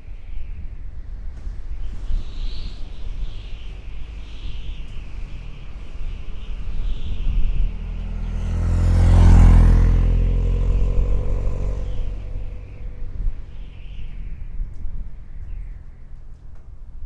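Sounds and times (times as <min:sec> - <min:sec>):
vehicle driving past: 0:01.5 - 0:16.5.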